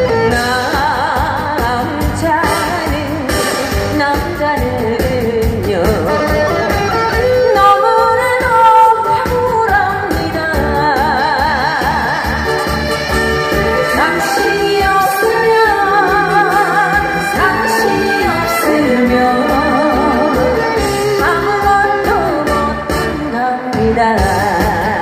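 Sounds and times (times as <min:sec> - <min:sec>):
woman singing into a microphone: 0:00.0 - 0:12.7, 0:13.5 - 0:25.0
instrumental accompaniment: 0:00.0 - 0:25.0.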